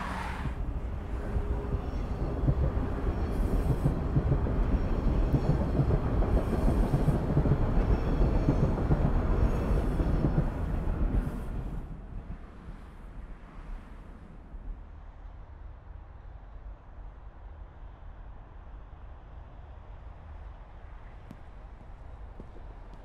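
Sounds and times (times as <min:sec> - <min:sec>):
train rumbling along track: 0:00.0 - 0:23.0.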